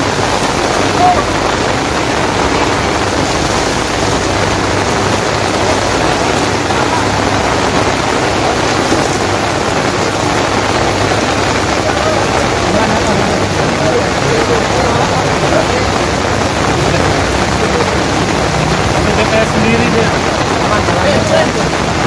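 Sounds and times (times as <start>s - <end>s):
heavy rain on tarpaulin: 0.0s - 22.0s.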